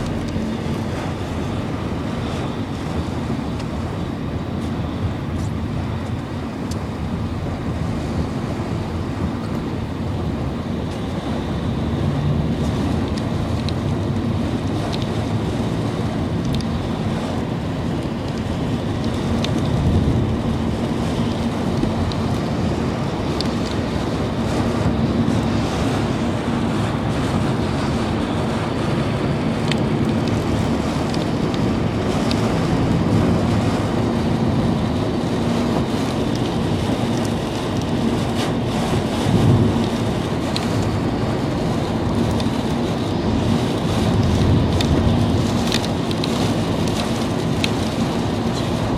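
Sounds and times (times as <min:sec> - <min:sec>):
car rumble on wet road: 0:00.0 - 0:48.9
rain hitting car bodywork: 0:00.0 - 0:48.9.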